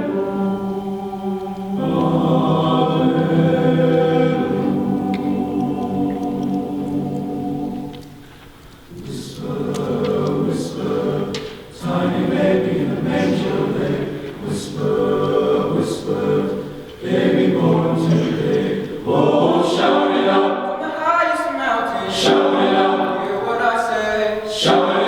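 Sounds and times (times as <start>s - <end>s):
men's chorus singing: 0.0s - 8.2s, 8.9s - 25.0s.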